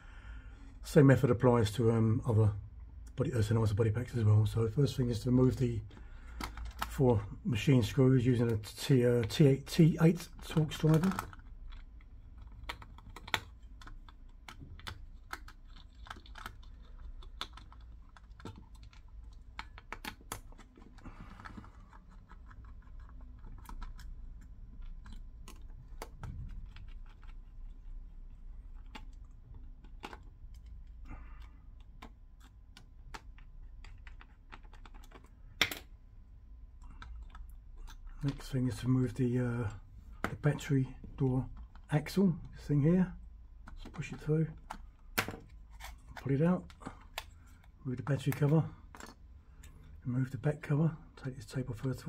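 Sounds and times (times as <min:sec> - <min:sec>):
handling small device: 0:05.1 - 0:07.4, 0:08.4 - 0:50.0.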